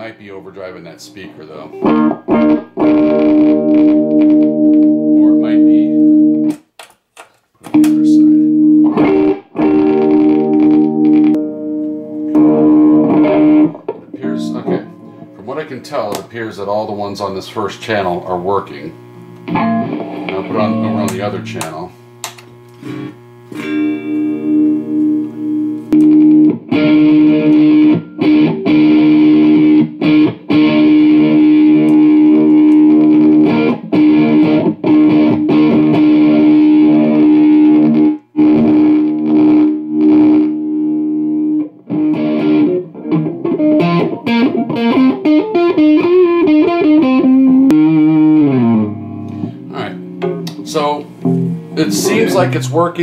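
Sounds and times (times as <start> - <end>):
electric guitar chords and notes: 1.6 - 6.9, 7.6 - 16.3, 18.9 - 53.0.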